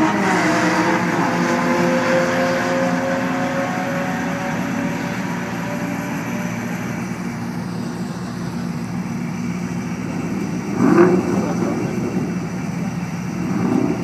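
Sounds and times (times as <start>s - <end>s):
sports car engines droning: 0.0s - 14.0s.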